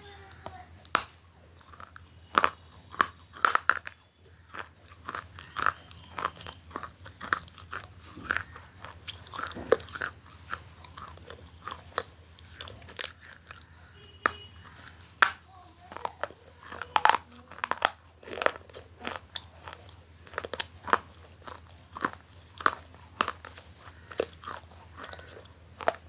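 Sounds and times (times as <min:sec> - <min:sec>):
faint low hum: 0:00.0 - 0:26.0
crunchy food being chewed: 0:00.2 - 0:26.0.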